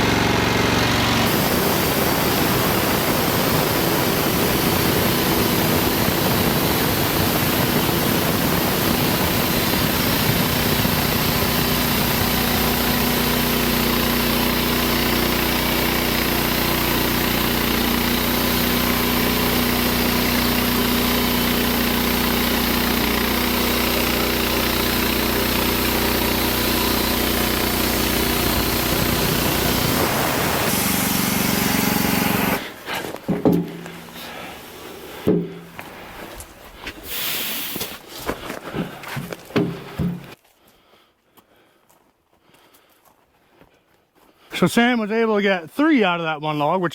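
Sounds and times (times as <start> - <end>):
bandsaw sawmill cutting log: 0.0 - 36.3, 37.0 - 40.4.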